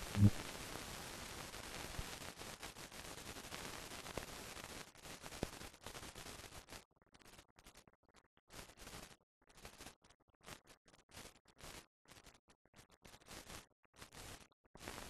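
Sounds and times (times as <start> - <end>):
film soundtrack hiss and crackle: 0.0 - 15.0.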